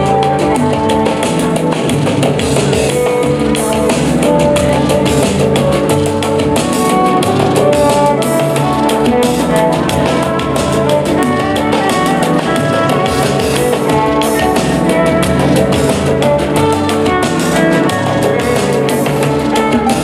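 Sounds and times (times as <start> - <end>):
loud music with fast drum beat: 0.0 - 20.0.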